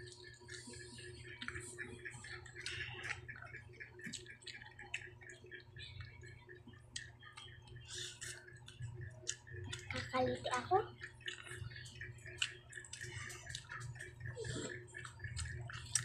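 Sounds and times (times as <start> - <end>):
chewing and fingers picking food: 0.0 - 10.1, 10.9 - 16.0
low steady hum: 0.0 - 16.0.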